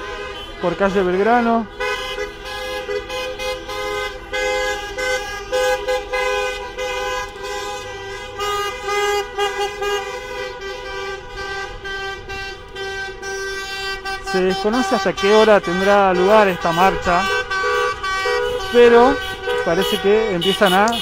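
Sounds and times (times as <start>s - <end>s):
cars rumbling past: 0.0s - 21.0s
many car horns honking: 0.0s - 21.0s.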